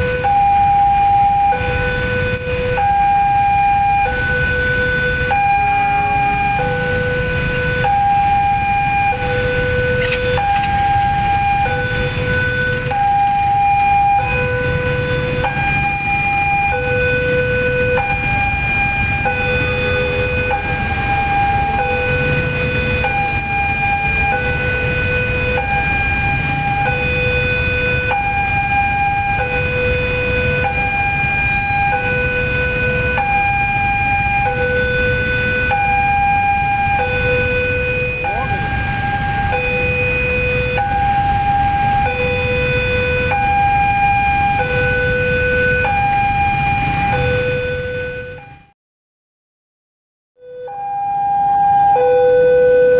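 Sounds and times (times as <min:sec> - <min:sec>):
two-tone electronic alarm: 0:00.0 - 0:48.7, 0:50.4 - 0:52.9.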